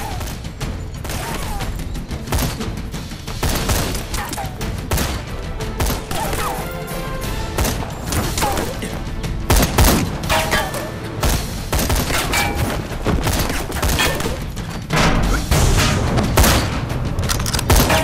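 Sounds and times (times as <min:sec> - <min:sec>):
gunshots: 0:00.0 - 0:06.8, 0:07.4 - 0:18.0.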